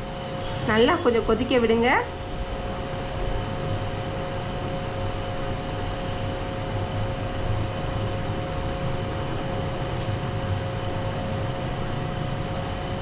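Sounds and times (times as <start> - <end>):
faint steady hum: 0.0 - 13.0
pot boiling on stove: 1.8 - 13.0.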